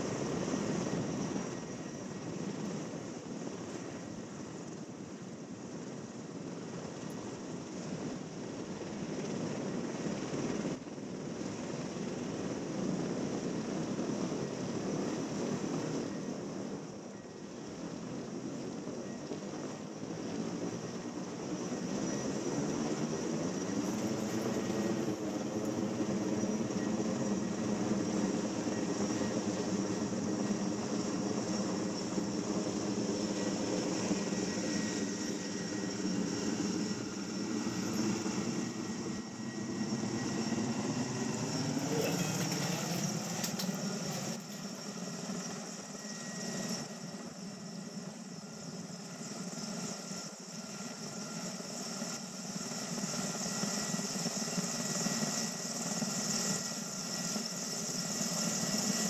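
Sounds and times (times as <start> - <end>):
helicopter rotor and turbine drone: 0.0 - 59.0.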